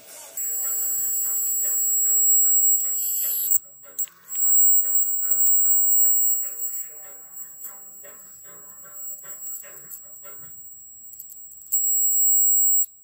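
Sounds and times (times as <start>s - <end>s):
transformer high-pitched whine: 0.0s - 13.0s.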